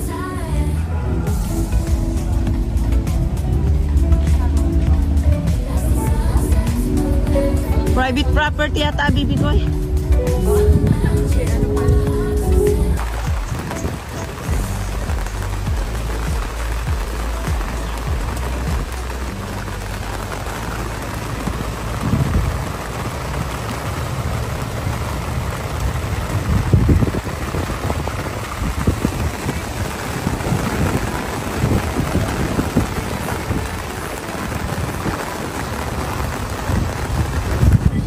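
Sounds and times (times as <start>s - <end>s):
steady rain falling: 0.0s - 38.0s
low rumbling thuds: 1.3s - 33.7s.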